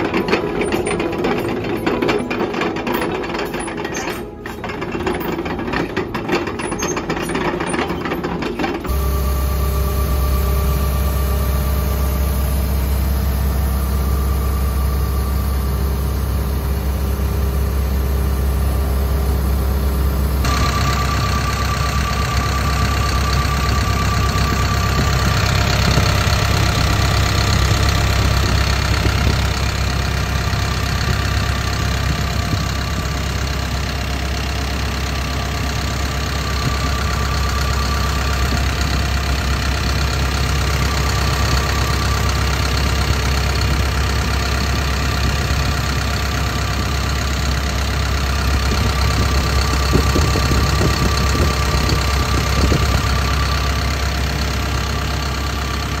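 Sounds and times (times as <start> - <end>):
diesel engine idling: 8.9 - 56.0.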